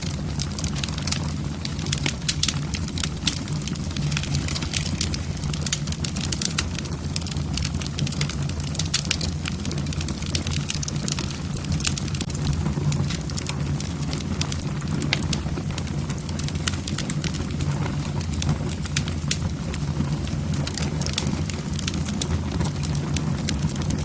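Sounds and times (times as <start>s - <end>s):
logs crackling and popping: 0.0s - 24.0s.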